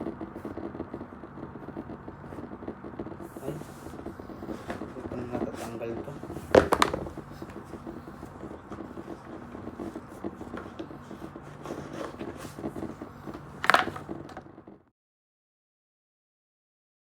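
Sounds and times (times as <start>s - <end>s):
low steady hum: 0.0s - 14.8s.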